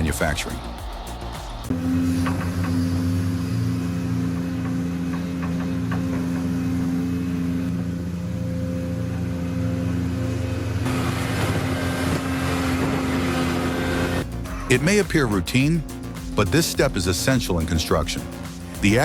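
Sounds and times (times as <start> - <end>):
bulldozer engine running: 0.0 - 19.0.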